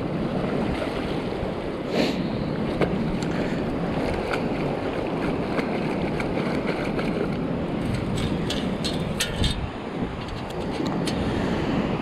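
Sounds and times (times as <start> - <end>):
shallow surf washing: 0.0 - 12.0
wind buffeting microphone: 2.4 - 12.0.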